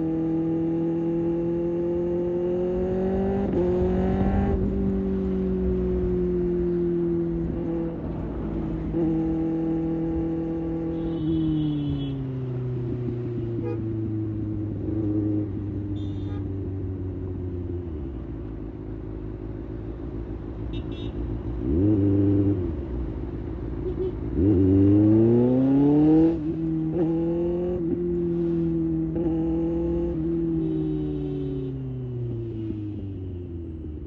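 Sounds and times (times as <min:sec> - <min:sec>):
motorcycle engine revving: 0:00.0 - 0:19.4, 0:20.9 - 0:34.0.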